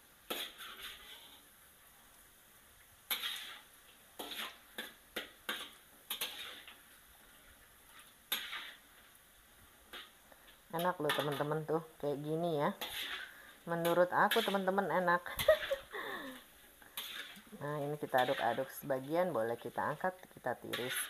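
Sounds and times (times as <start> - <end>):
spatula scraping a wok: 0.0 - 1.9, 3.0 - 21.0
faint frying hiss: 0.0 - 21.0.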